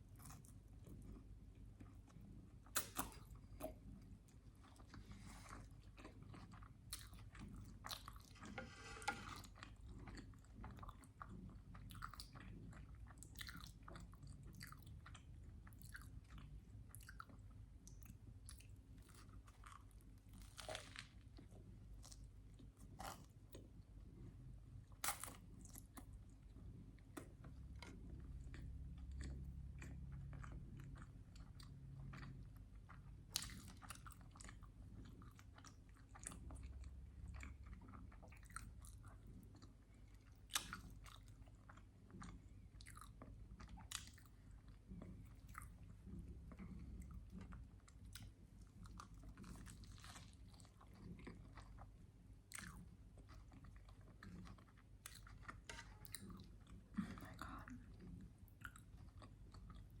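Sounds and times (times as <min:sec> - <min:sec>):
person chewing: 0:04.4 - 0:17.4, 0:24.8 - 1:00.0.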